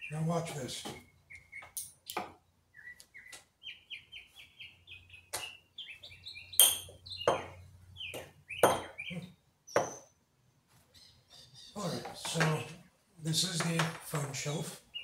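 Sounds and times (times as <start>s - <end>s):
small bird chirping: 0.0s - 10.2s, 10.8s - 12.8s.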